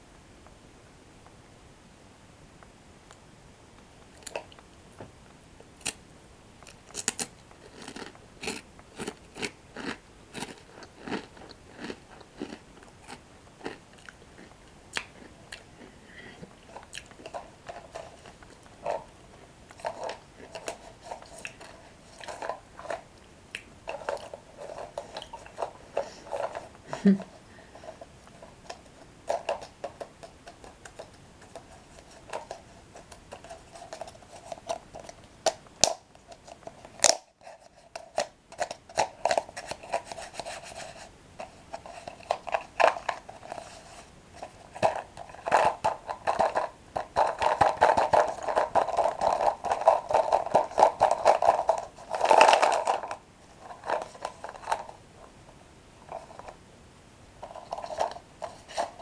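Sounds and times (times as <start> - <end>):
crunching and chewing bread sticks: 4.0 - 4.8, 6.6 - 26.8, 27.6 - 55.4.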